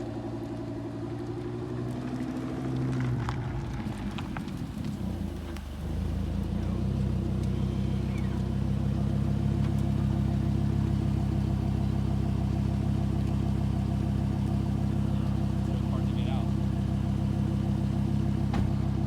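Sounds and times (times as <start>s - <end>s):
car engine running at low revs: 0.0s - 19.0s.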